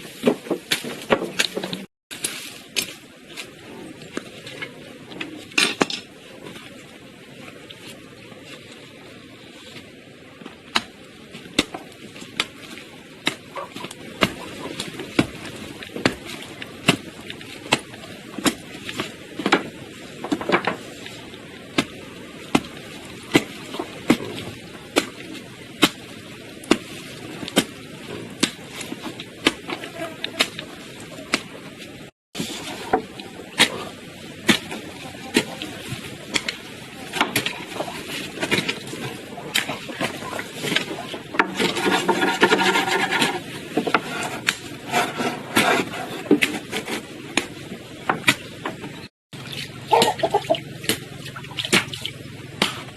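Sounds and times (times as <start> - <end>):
background work noise: 0.0 - 52.9.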